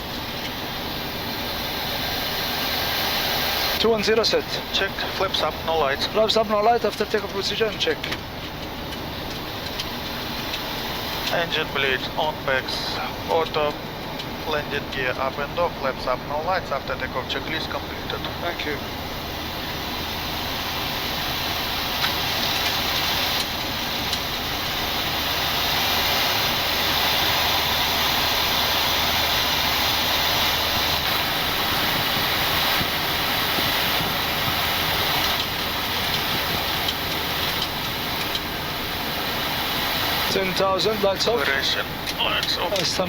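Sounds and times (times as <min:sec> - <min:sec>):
rushing air and engine noise: 0:00.0 - 0:43.0.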